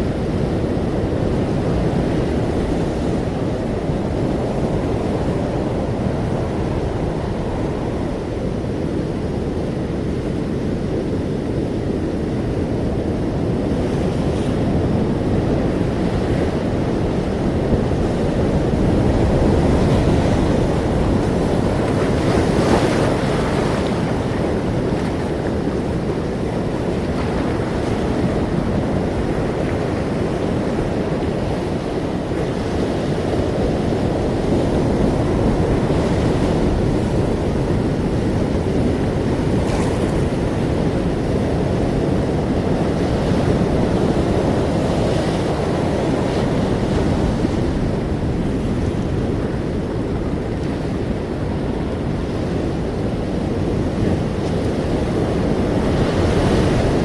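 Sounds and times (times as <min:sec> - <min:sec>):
ocean waves rushing: 0:00.0 - 0:57.0
wind: 0:00.0 - 0:57.0.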